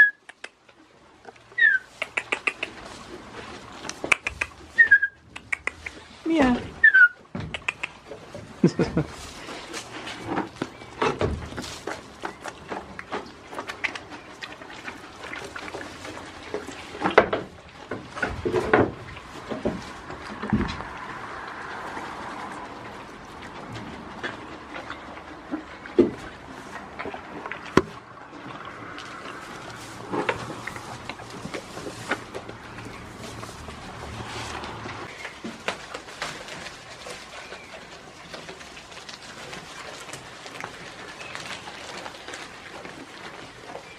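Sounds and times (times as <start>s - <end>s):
goats crunching food: 0.0s - 43.9s
branches snapping and foliage rustling: 8.1s - 43.9s.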